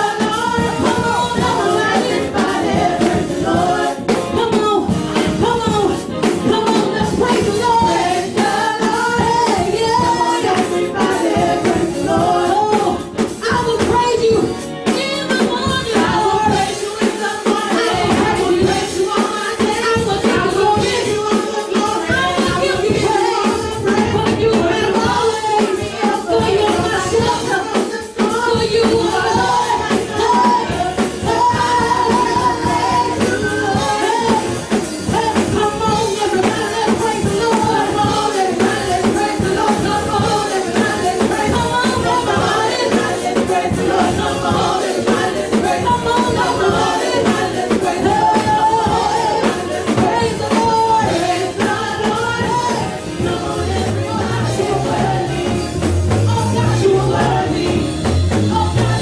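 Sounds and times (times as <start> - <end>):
band with steady beat: 0.0 - 59.0
voices singing together: 0.0 - 59.0.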